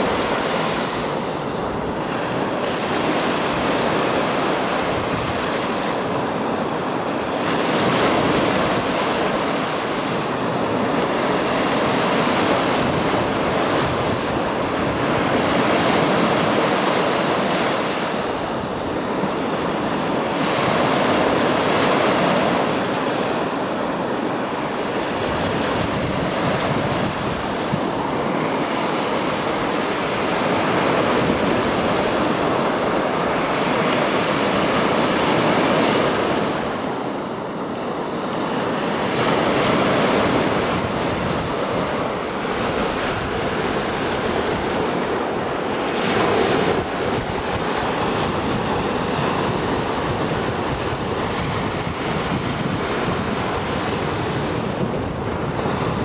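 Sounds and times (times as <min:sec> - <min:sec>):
small waves washing on shore: 0:00.0 - 0:56.0.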